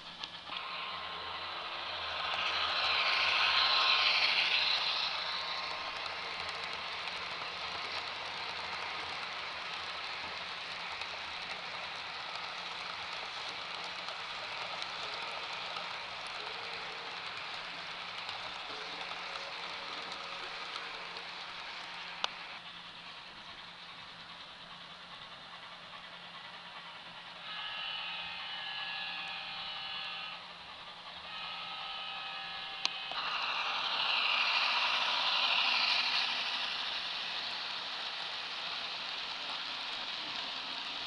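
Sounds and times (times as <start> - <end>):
model train wheels on rails: 0.0 - 41.0.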